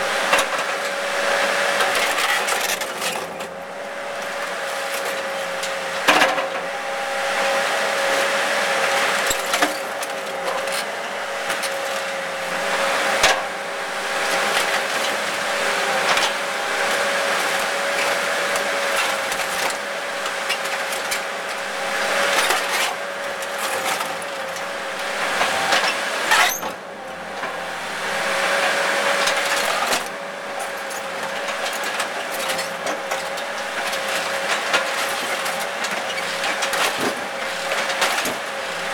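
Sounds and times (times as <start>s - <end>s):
excavator engine whine: 0.0s - 38.9s.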